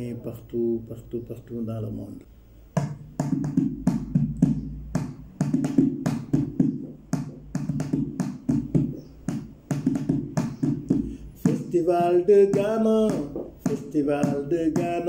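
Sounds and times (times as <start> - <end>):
hand drumming on container: 2.8 - 15.0.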